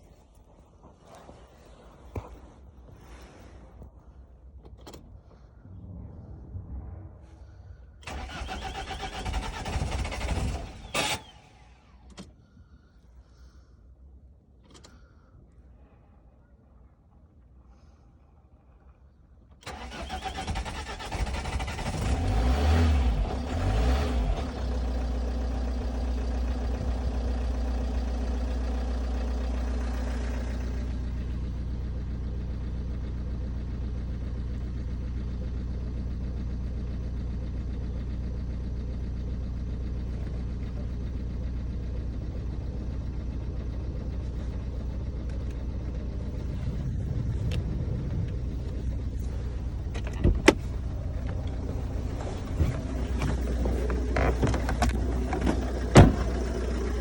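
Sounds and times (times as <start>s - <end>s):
diesel engine starting and idling: 4.4s - 13.7s, 18.6s - 57.0s.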